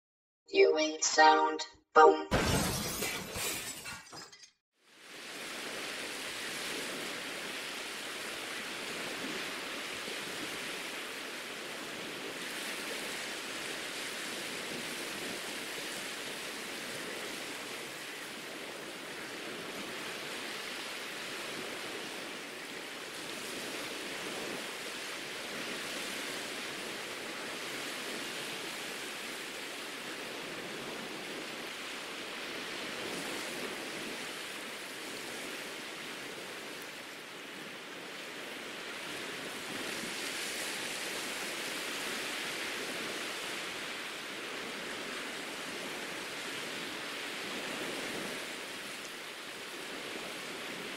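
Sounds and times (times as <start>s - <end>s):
small waves on sandy beach: 4.8s - 50.9s.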